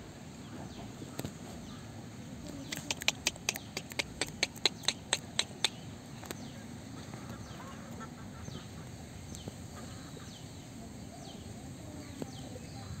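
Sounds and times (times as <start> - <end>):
low background noise: 0.0 - 13.0
birds chirping: 0.3 - 13.0.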